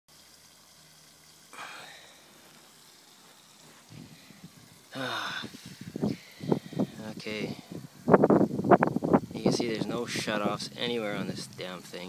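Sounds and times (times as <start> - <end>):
water spattering onto grass: 0.1 - 12.0.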